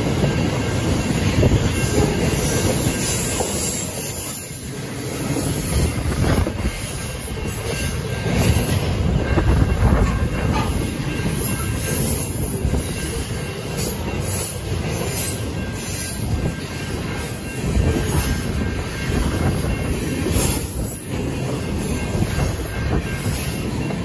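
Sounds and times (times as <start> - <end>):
freight wagons rumbling on rails: 0.0 - 24.0.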